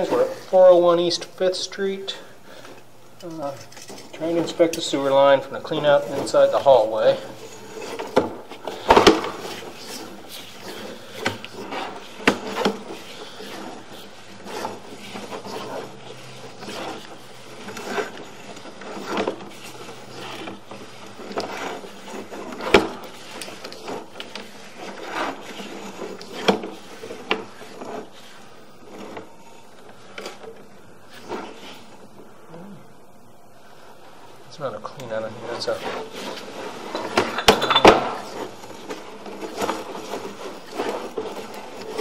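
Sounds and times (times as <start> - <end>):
cable rubbing and scraping: 0.0 - 2.2, 2.8 - 32.4, 33.8 - 42.0.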